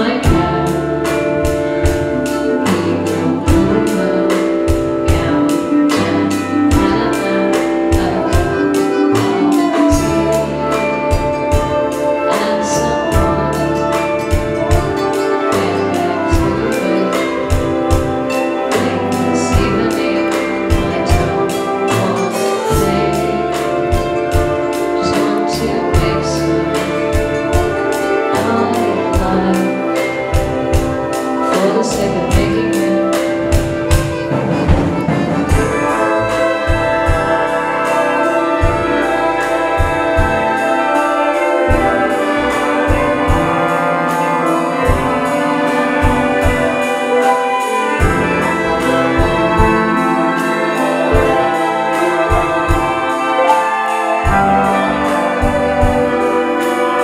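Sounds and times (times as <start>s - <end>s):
brass holding notes: 0.0s - 57.0s
live ensemble playing instrumental: 0.0s - 57.0s.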